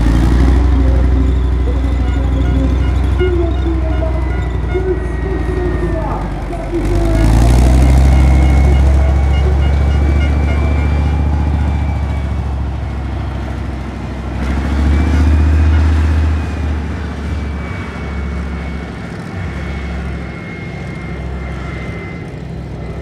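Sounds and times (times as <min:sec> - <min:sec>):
tank engine running under load: 0:00.0 - 0:23.0.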